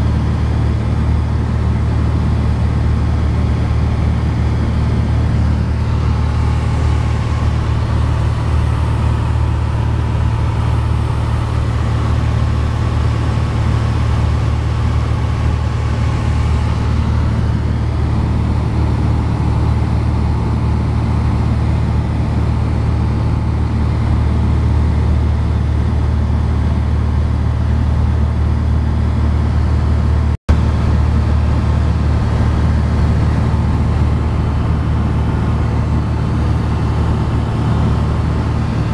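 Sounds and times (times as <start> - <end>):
aircraft engine drone in cabin: 0.0 - 38.9.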